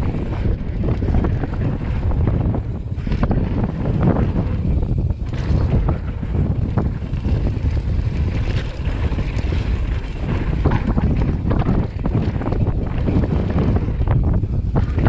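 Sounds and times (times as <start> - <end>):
tyres rumbling on dirt: 0.0 - 15.0
wind buffeting microphone: 0.0 - 15.0.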